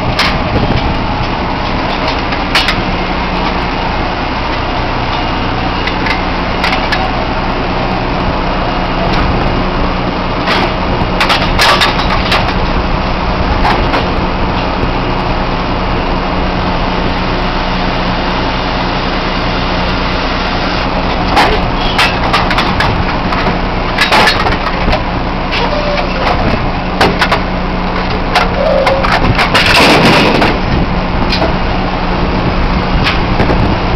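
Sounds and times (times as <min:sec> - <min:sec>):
drilling rig machinery running: 0:00.0 - 0:33.9.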